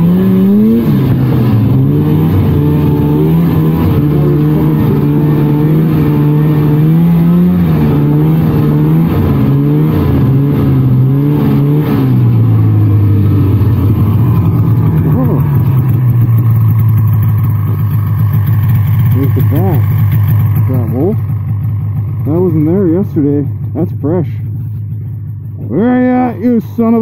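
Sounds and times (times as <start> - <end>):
snowmobile engine running: 0.0 - 27.0.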